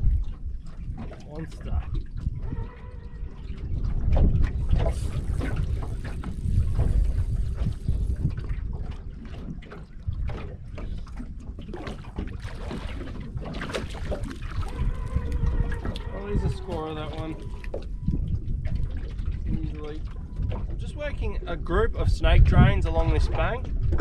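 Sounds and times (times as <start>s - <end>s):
water lapping at metal boat: 0.0s - 24.0s
wind buffeting microphone: 0.0s - 24.0s.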